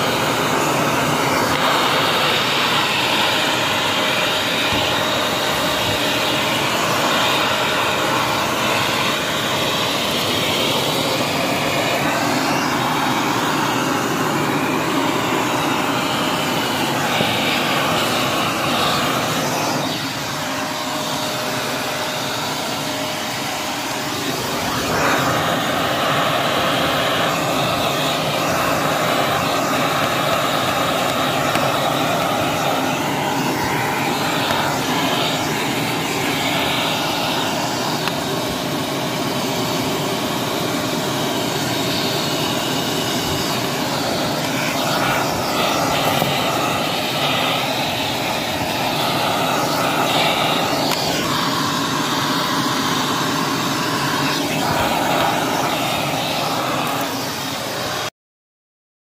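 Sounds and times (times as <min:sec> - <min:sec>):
handheld vacuum cleaner running: 0:00.0 - 0:58.1.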